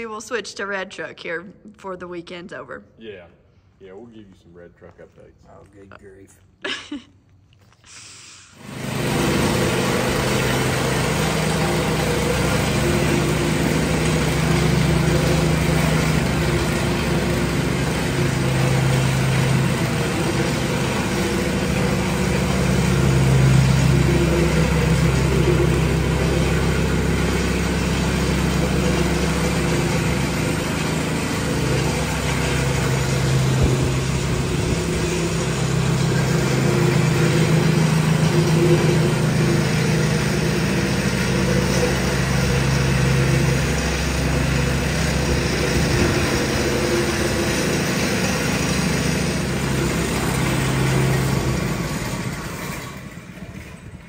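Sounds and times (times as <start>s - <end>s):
plate compactor running: 8.6s - 54.0s.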